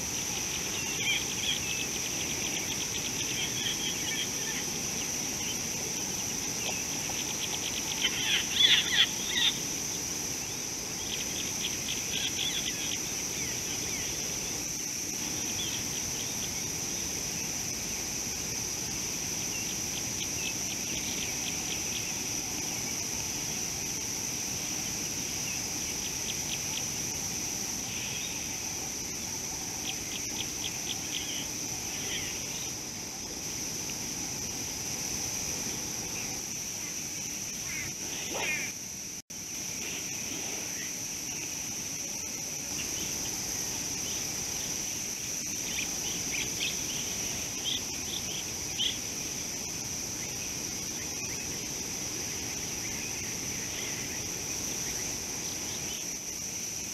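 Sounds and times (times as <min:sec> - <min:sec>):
high-pitched insect drone: 0:00.0 - 0:56.9.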